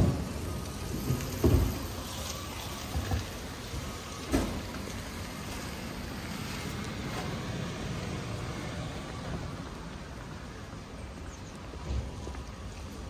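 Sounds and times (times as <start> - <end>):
traffic hiss and rumble: 0.0 - 13.0.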